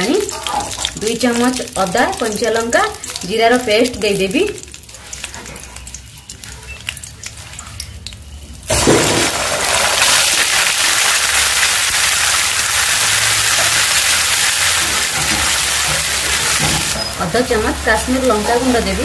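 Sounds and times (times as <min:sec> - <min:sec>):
loud sizzle of paste in oil: 0:00.0 - 0:19.0
spices crackling in oil: 0:00.0 - 0:19.0.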